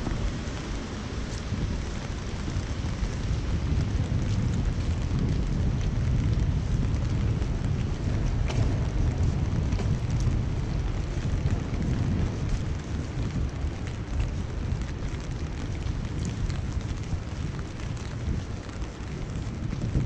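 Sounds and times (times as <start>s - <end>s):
rain pattering on an umbrella: 0.0s - 20.0s
steady low city rumble: 0.0s - 20.0s.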